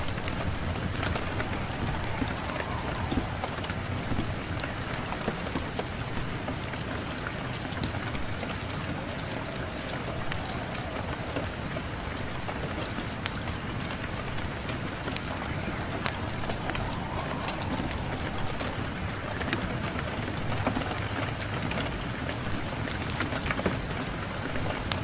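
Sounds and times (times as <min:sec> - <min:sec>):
wind rushing: 0:00.0 - 0:21.6
wood fire crackling: 0:00.0 - 0:25.0.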